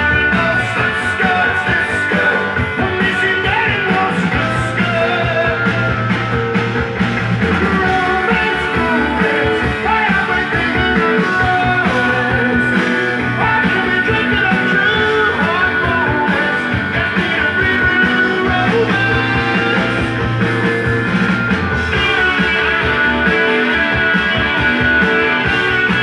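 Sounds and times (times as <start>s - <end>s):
song with singing and guitar: 0.0s - 26.0s.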